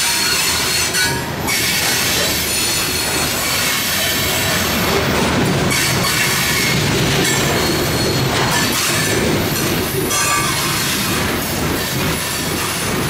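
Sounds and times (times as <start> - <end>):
wheel-on-rail noise: 0.0 - 13.0.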